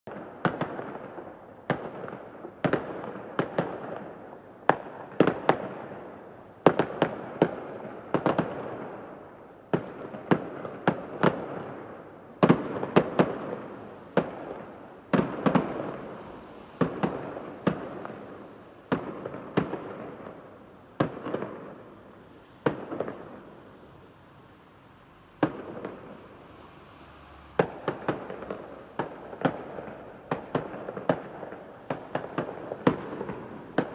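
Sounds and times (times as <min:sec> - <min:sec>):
fireworks banging with echo: 0:00.1 - 0:23.7, 0:25.4 - 0:26.6, 0:27.4 - 0:33.9.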